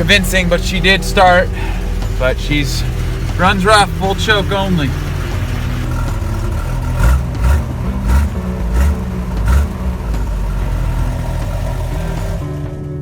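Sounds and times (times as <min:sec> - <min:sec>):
car engine running rough: 0:00.0 - 0:13.0.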